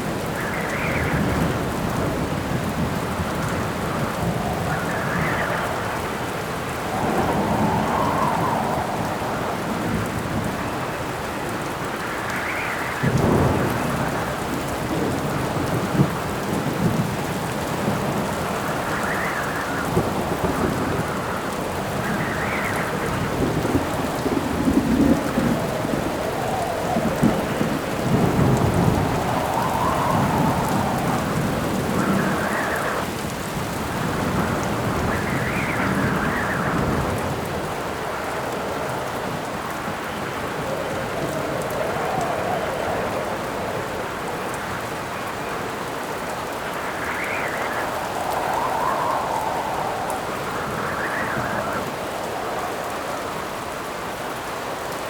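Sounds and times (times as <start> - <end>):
thunder rumbling: 0.0 - 54.4
heavy rain: 0.0 - 55.0
wind howling in gusts: 0.0 - 55.0.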